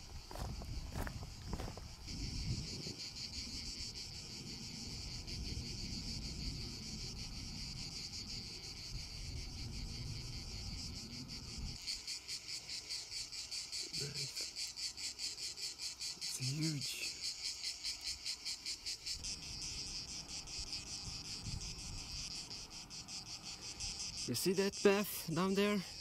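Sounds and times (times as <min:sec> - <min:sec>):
cicadas shrilling: 0:00.0 - 0:26.0.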